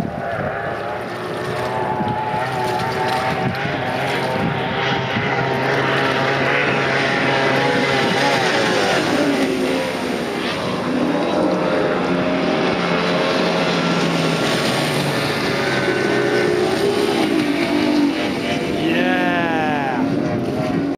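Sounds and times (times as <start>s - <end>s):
powerboat engines passing: 0.0s - 20.9s.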